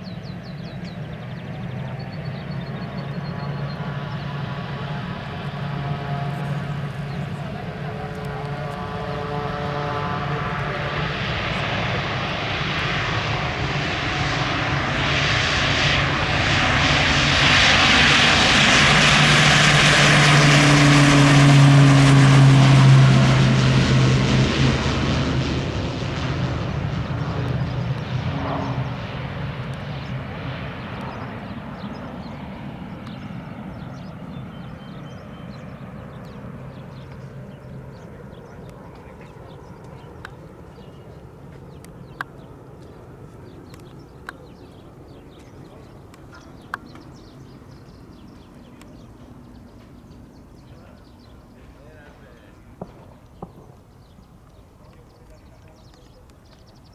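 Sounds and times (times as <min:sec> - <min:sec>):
turboprop engine and propeller hum: 0:00.0 - 0:56.9.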